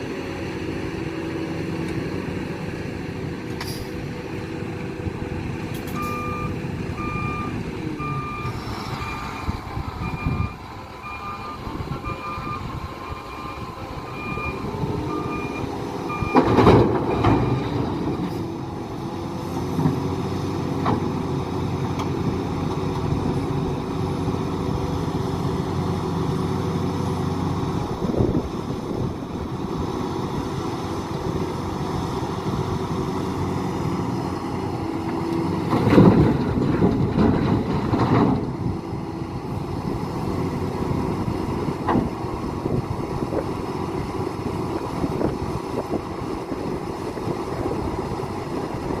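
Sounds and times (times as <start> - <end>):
heavy diesel machinery running: 0.0 - 49.0.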